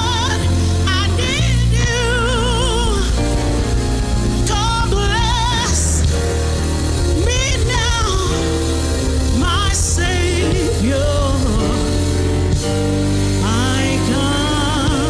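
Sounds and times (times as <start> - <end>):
gospel instrumental music: 0.0 - 15.0.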